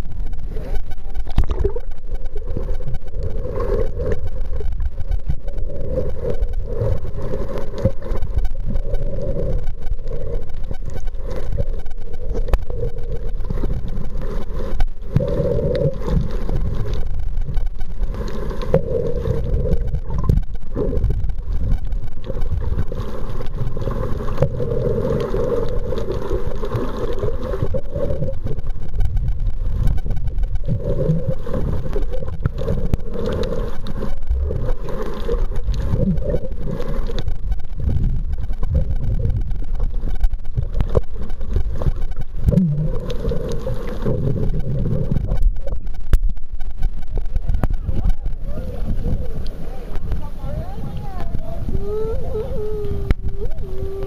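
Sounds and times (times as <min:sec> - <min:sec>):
muffled underwater rumble: 0:00.0 - 0:54.0
underwater hum: 0:00.0 - 0:54.0.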